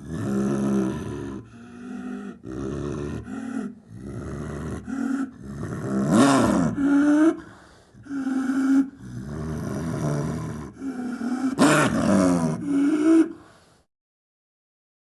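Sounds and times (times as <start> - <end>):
cartoon animal roaring and growling: 0.0 - 13.5.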